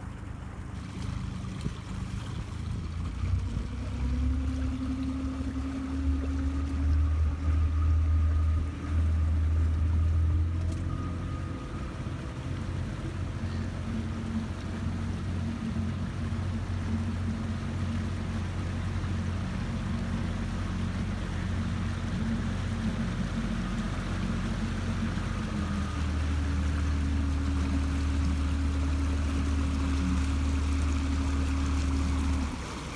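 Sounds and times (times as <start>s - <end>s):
motorboat engine running: 0.0s - 32.9s
water washing along hull: 0.0s - 32.9s.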